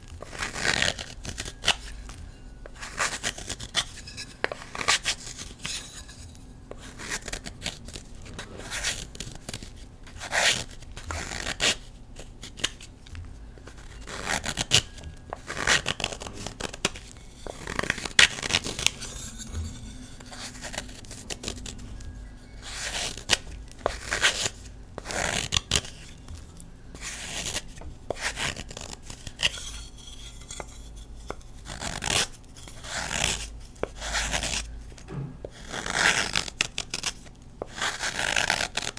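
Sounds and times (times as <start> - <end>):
knife scraping chalk block: 2.6 - 11.8, 13.7 - 21.8, 22.6 - 26.1, 27.0 - 34.7, 35.5 - 38.9.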